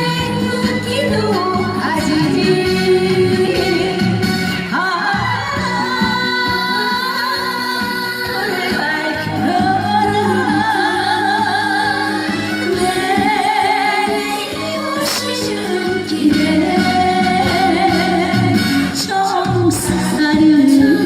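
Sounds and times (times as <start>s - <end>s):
backing accompaniment music: 0.0s - 21.0s
person singing with vibrato: 0.0s - 21.0s.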